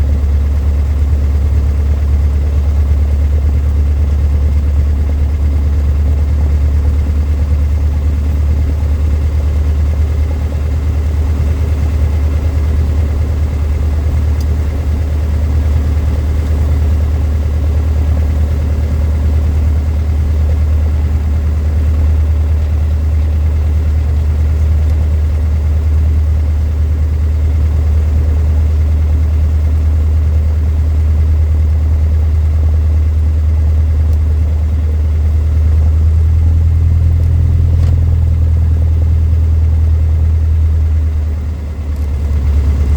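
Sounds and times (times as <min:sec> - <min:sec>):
propeller plane engine droning: 0:00.0 - 0:42.9.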